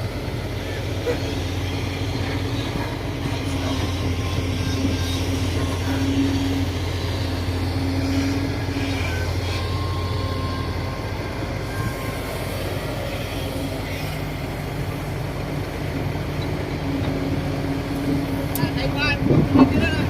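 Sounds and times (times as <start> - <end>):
bulldozer diesel engine drone: 0.0 - 20.0.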